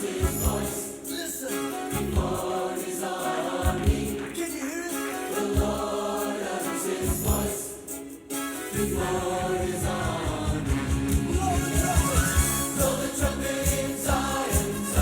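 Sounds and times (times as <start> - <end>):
gospel choir singing: 0.0 - 15.0
music with steady beat: 0.0 - 15.0.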